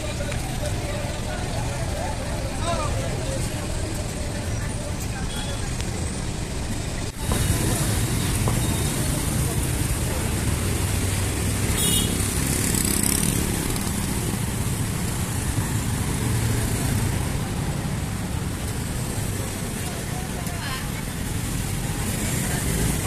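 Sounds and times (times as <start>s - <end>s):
vehicle engines and tyre noise: 0.0s - 23.0s.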